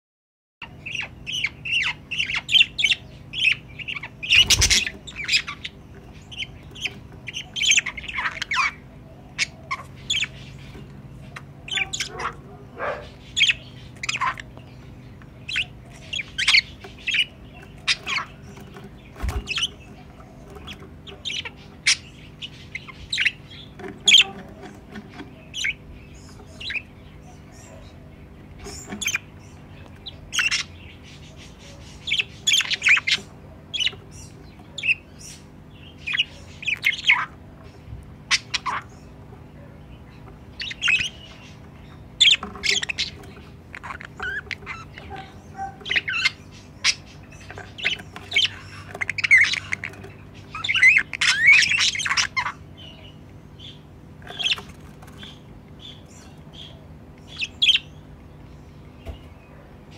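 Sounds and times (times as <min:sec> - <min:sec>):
budgerigars chirping and squawking: 0:00.6 - 0:59.9.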